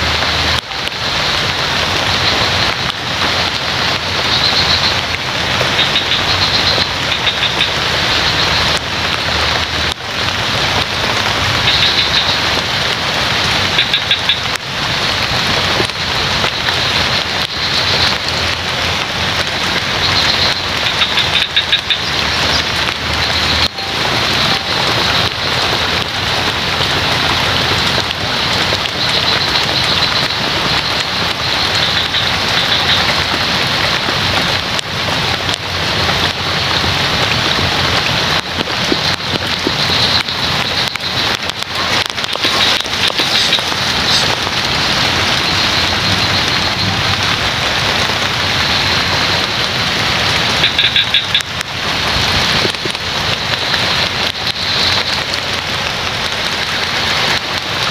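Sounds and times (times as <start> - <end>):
heavy rain on leaves: 0.0 - 57.9.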